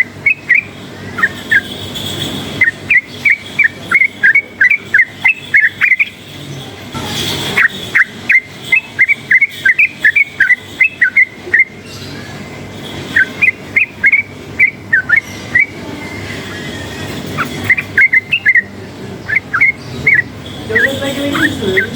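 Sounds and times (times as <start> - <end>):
bird whistling calls: 0.0 - 21.9
low background hum: 0.0 - 21.9.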